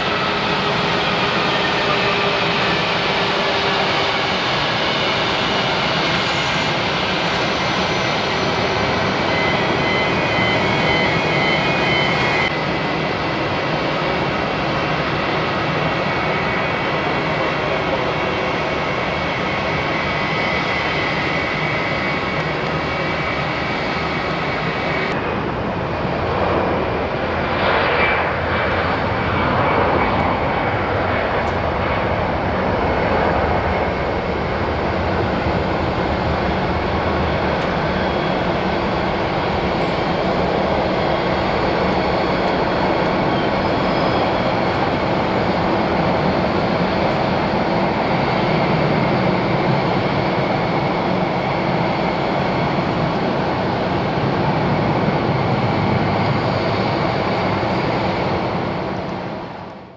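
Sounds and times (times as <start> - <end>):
jet airliner taking off: 0.0 - 59.9.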